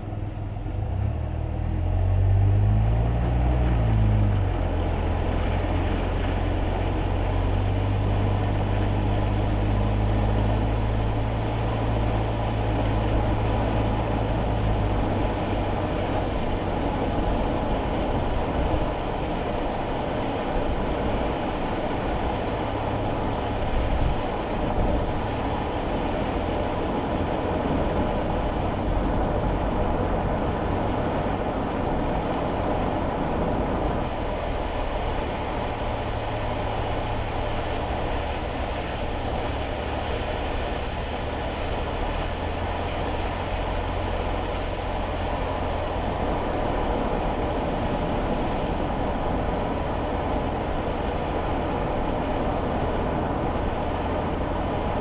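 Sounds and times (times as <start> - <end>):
low engine hum: 0.0 - 55.0
tyres rumbling on wet road: 0.0 - 55.0.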